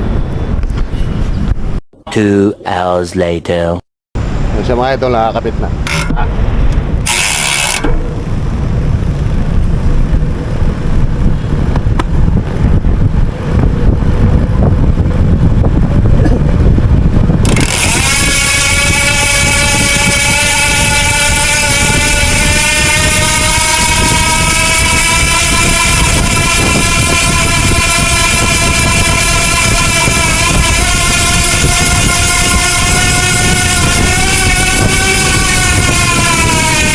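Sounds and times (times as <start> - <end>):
wind rumbling on microphone: 0.0 - 1.8, 4.2 - 36.9
motorcycle engine revving: 5.8 - 36.9.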